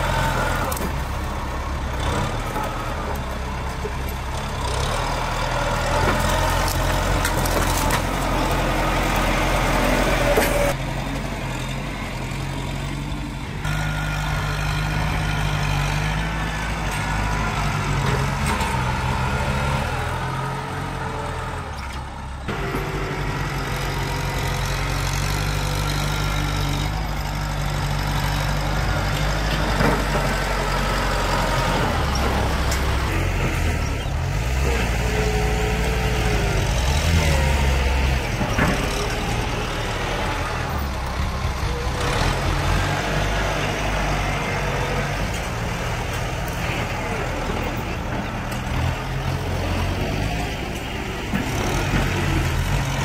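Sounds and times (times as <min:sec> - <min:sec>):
diesel tractor engine under load: 0:00.0 - 0:53.0.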